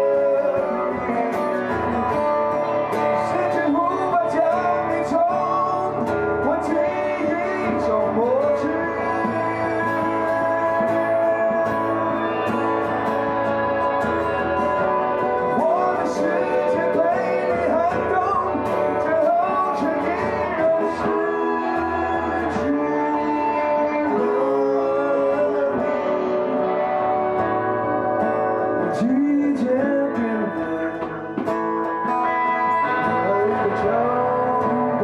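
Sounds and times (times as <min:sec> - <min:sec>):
acoustic and electric guitars: 0:00.0 - 0:35.0
man singing: 0:00.0 - 0:35.0.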